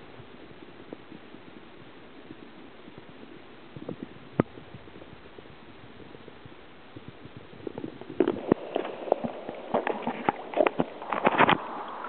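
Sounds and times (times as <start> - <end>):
steady hiss: 0.0 - 12.0
underwater knocks and crackles: 0.0 - 12.0.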